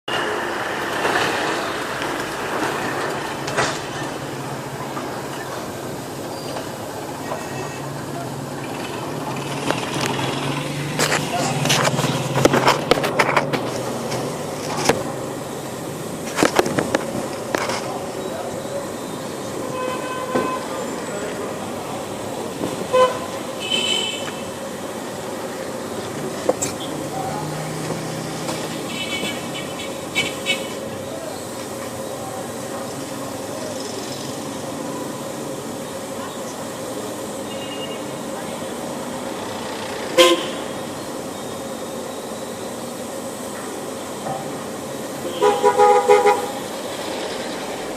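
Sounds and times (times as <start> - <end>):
distant voices: 0.0 - 47.9
steady street hiss: 0.0 - 47.9
traffic: 0.0 - 47.9.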